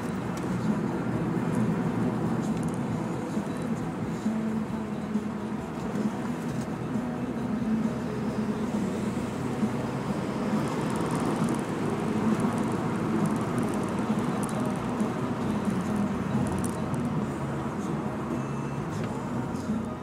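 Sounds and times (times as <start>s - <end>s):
car engine pulling uphill: 0.0s - 20.0s
road and tyre noise: 0.0s - 20.0s.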